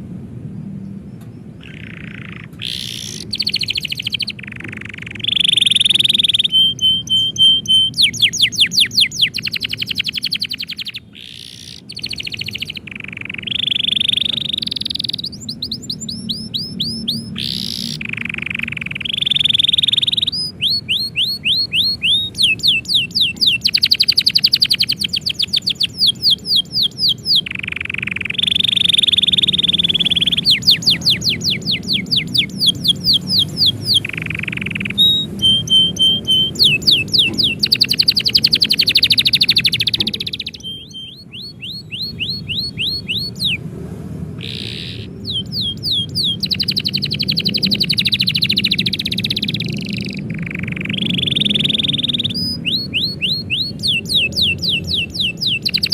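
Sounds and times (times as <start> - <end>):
canary singing: 1.1 - 55.9.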